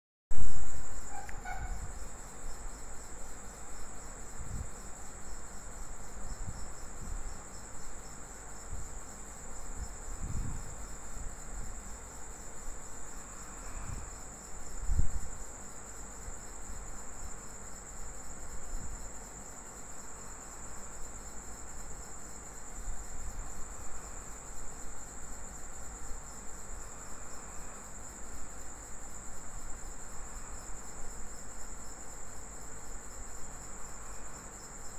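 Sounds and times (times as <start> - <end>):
cricket trilling: 0.3 - 34.9.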